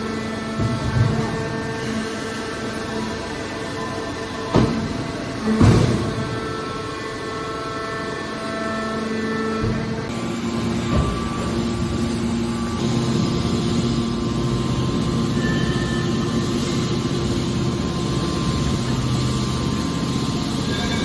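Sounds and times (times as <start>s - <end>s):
baler machine hum: 0.0s - 21.0s.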